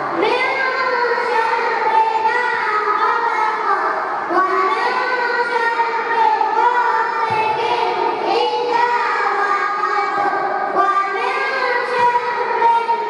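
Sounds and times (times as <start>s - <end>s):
children singing in unison: 0.0s - 13.0s.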